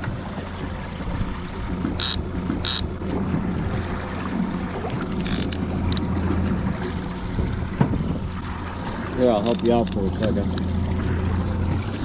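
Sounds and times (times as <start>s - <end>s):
outboard motor humming: 0.0s - 12.0s
water washing past boat: 0.0s - 12.0s.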